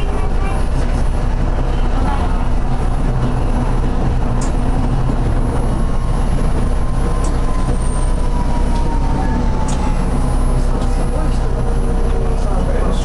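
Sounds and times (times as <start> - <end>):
streetcar wheels rumbling on rails: 0.0 - 13.0.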